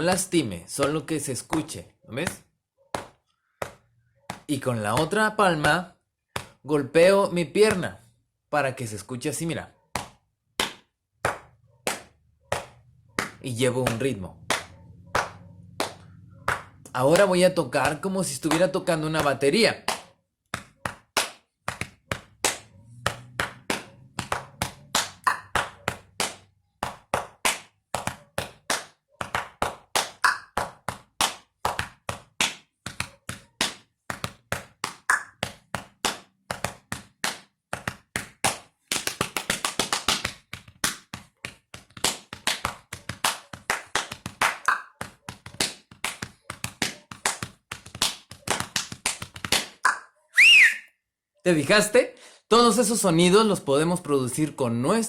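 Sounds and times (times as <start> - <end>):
palm slaps on chest and thigh: 0.8 - 6.6, 9.9 - 50.0.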